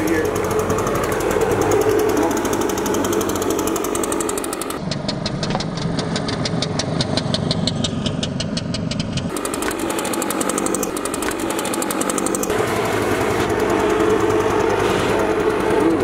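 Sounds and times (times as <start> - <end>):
leaf blower engine running: 0.0 - 7.7, 9.3 - 16.0.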